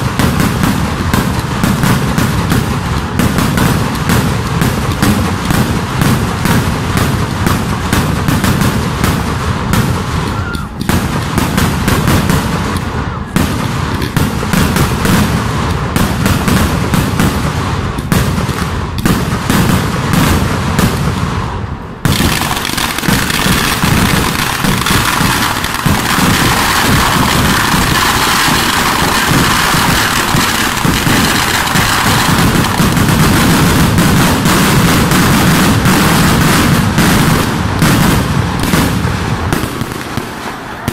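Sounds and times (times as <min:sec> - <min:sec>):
fireworks barrage of bangs: 0:00.0 - 0:40.9.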